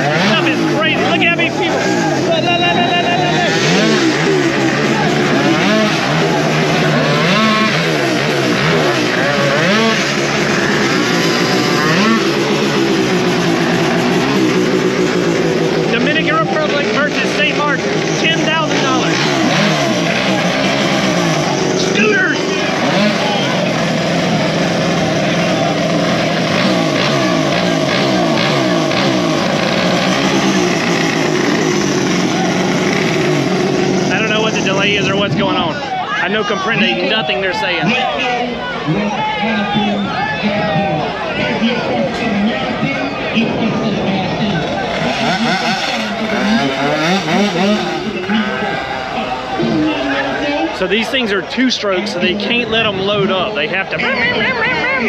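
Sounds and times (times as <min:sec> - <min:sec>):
two-stroke scooter engine revving: 0:00.0 - 0:55.0.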